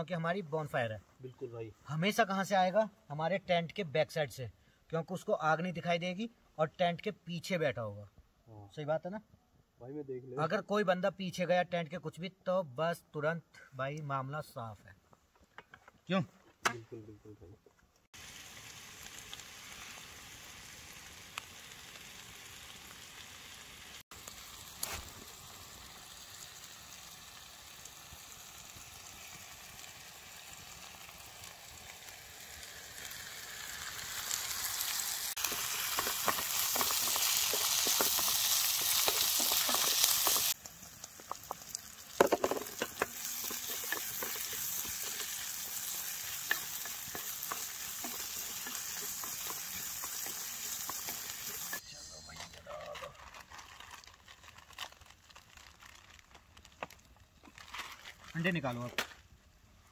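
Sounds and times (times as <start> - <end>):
crackling sizzle: 0.0 - 7.7, 17.9 - 59.9.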